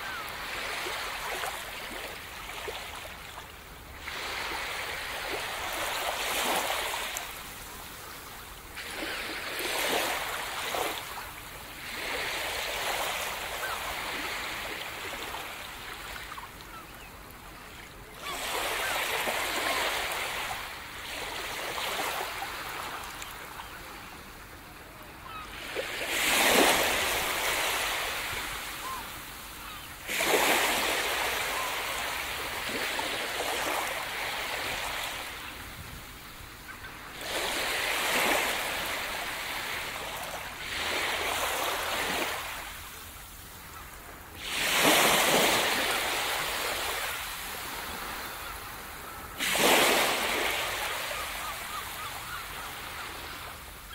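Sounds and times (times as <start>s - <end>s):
small waves breaking on a beach: 0.0s - 53.9s.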